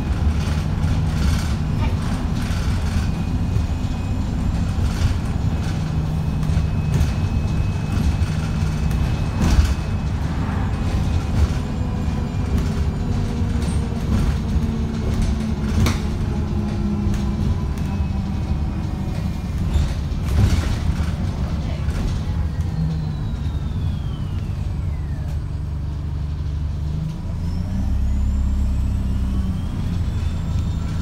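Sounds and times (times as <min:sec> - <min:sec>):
bus engine droning: 0:00.0 - 0:31.0.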